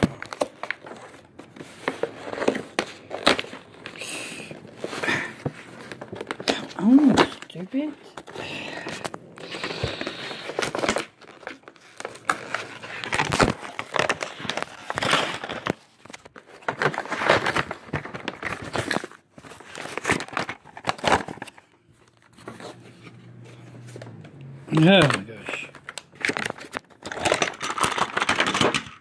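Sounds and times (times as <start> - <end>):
plastic packaging crinkling: 0.0 - 24.0, 24.7 - 29.0.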